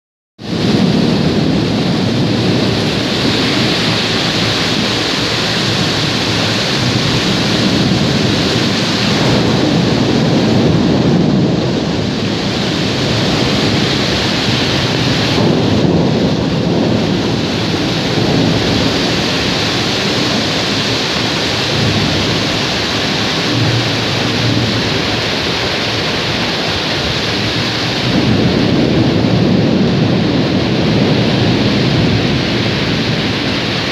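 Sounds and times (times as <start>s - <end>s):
heavy rain pouring: 0.4s - 33.9s
thunder rumbling: 0.4s - 33.9s.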